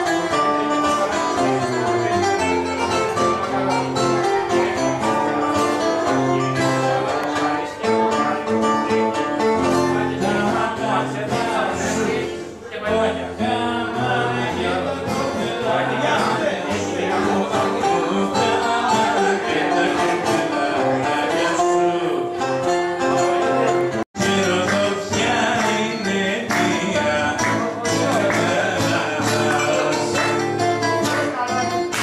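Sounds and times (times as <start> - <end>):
acoustic guitar: 0.0 - 32.0
bouzouki: 0.0 - 32.0
person singing: 0.0 - 32.0.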